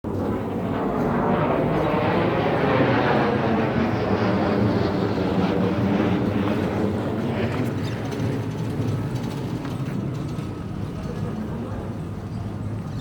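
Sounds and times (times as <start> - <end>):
fighter jet engine roar: 0.1 - 13.0.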